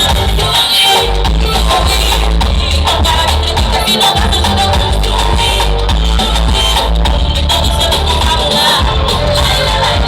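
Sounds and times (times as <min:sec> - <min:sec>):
song with heavy bass beat: 0:00.0 - 0:10.0.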